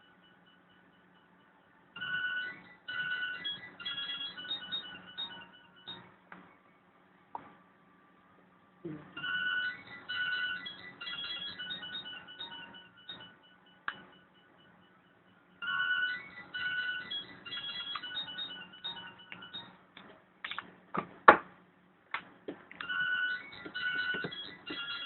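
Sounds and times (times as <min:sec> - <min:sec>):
tinny electronic melody: 0:00.0 - 0:07.2, 0:08.9 - 0:20.0, 0:22.8 - 0:25.0.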